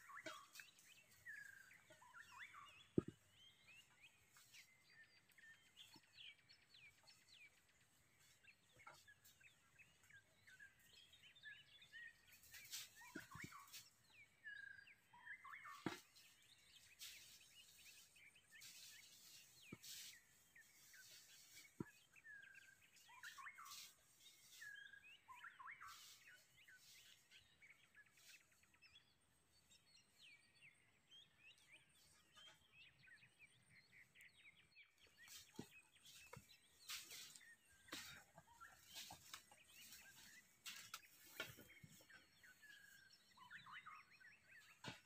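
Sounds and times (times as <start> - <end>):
wild birds chirping and calling: 0.0 - 45.0.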